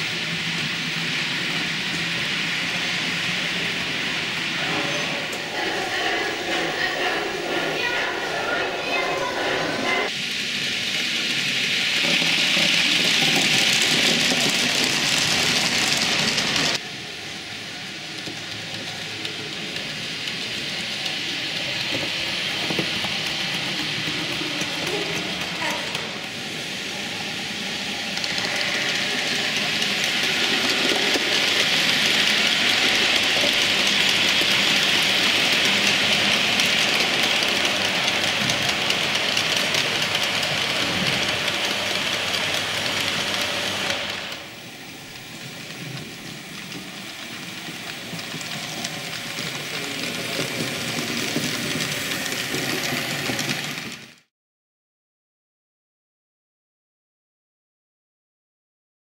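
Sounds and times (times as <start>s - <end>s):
model train wheels on rails: 0.0s - 54.3s.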